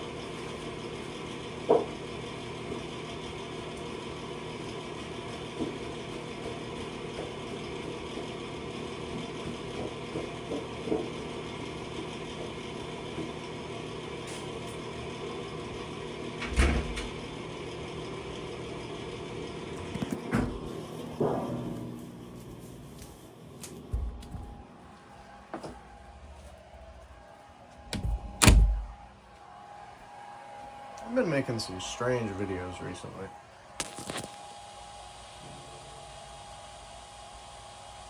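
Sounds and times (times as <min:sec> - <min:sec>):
printer fans and motors whirring: 0:00.0 - 0:38.0.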